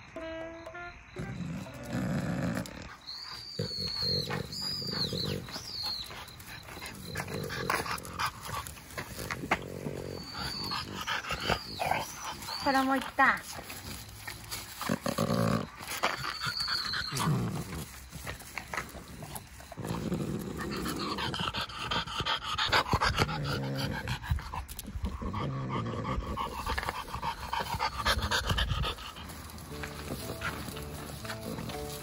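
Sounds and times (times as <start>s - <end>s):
dog panting: 1.2s - 32.0s.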